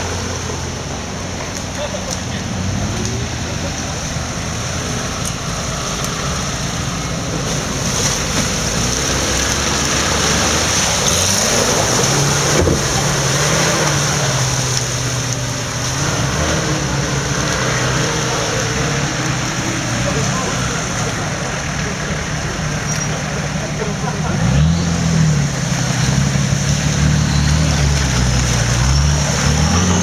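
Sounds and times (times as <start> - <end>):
car engine revving: 0.0 - 30.0
water splashing around wheels: 0.0 - 30.0.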